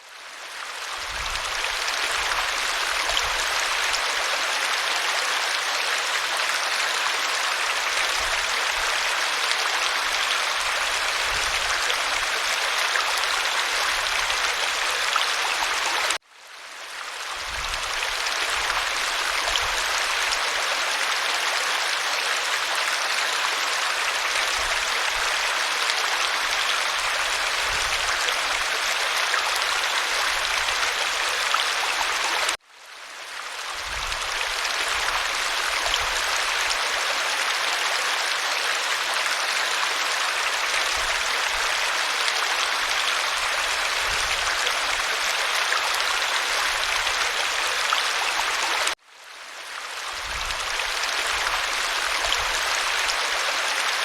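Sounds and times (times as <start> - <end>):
waterfall rushing water: 0.6 - 16.2, 17.2 - 32.6, 33.5 - 49.0, 49.7 - 54.0.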